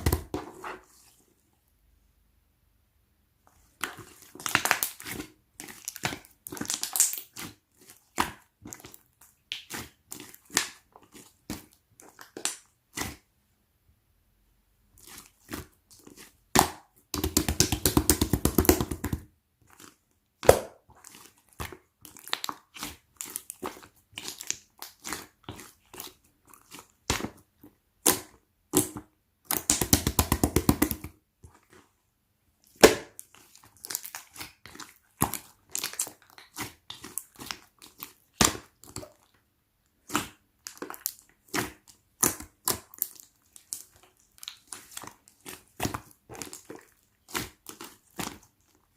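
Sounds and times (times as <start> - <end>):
slime crackling and squishing: 3.6 - 13.3, 14.9 - 32.0, 32.6 - 48.9.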